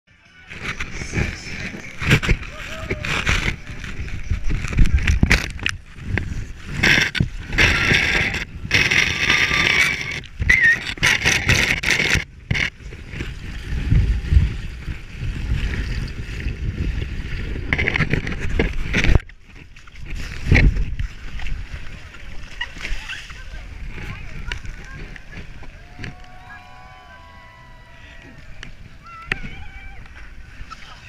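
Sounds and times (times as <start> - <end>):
water rushing and sloshing: 0.3 - 31.0.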